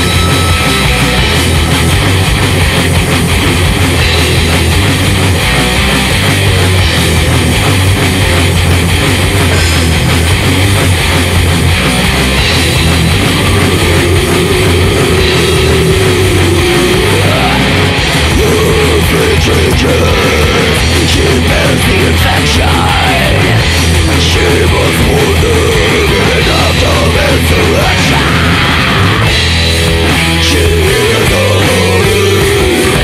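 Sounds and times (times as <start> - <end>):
distorted electric guitars: 0.0 - 33.0
drum kit playing: 0.0 - 33.0.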